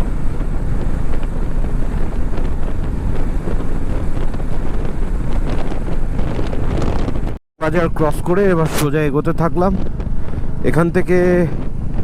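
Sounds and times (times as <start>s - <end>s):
motorbike running: 0.0s - 12.0s
road noise: 0.0s - 12.0s
wind buffeting microphone: 0.0s - 12.0s.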